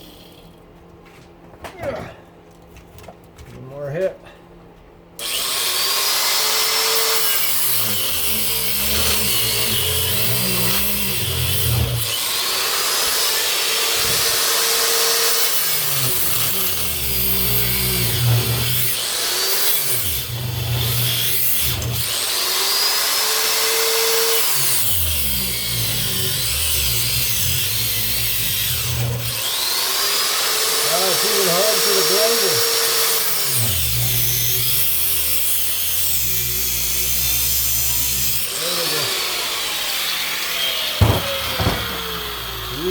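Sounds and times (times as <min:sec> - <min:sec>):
angle grinder cutting copper: 0:05.2 - 0:42.9.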